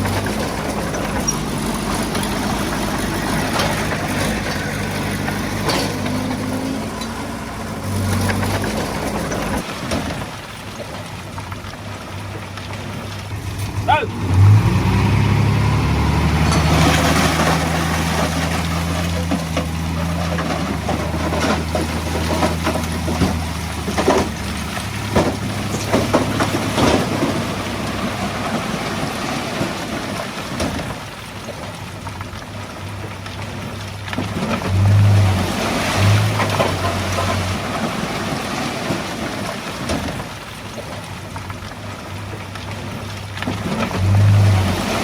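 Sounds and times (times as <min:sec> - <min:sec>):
heavy diesel engine running: 0:00.0 - 0:40.5, 0:42.0 - 0:45.0.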